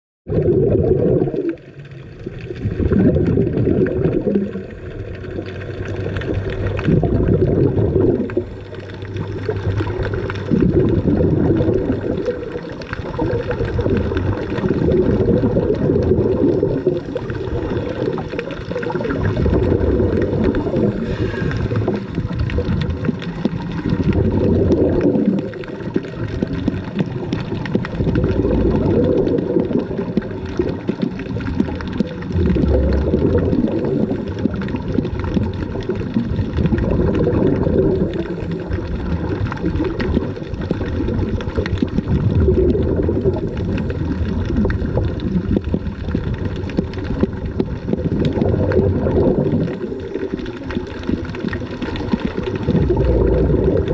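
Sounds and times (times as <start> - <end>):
underwater breath bubbling: 0.3 - 53.9.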